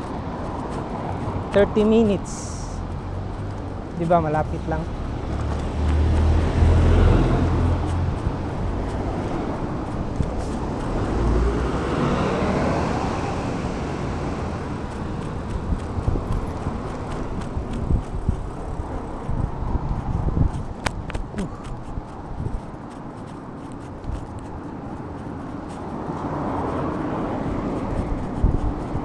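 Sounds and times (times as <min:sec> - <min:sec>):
cars passing: 0:00.0 - 0:29.0
hum of traffic: 0:00.0 - 0:29.0.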